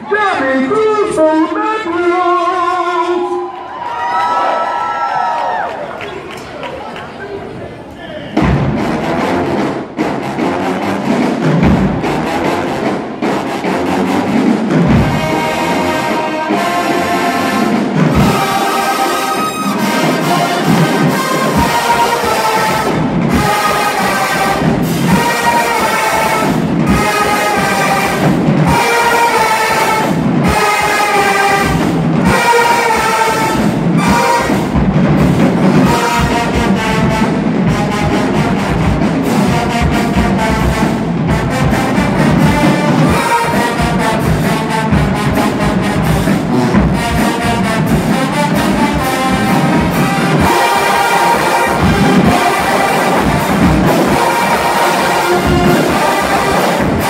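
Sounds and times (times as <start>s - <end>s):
marching drums: 8.3s - 57.0s
brass horns playing: 8.6s - 57.0s.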